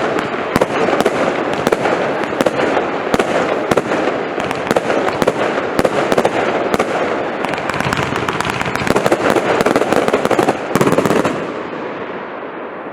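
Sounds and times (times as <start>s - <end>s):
firework barrage of cracks and bangs: 0.0s - 12.9s.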